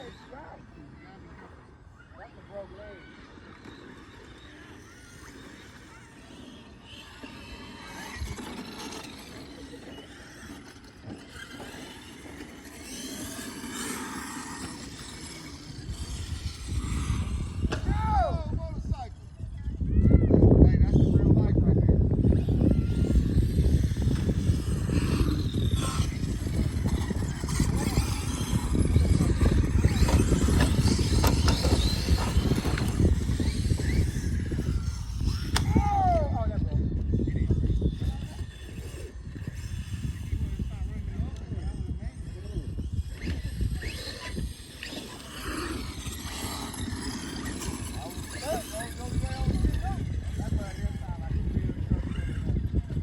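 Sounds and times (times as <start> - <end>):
low mechanical rumble: 0.0 - 53.0
radio-controlled vehicle running: 0.0 - 53.0.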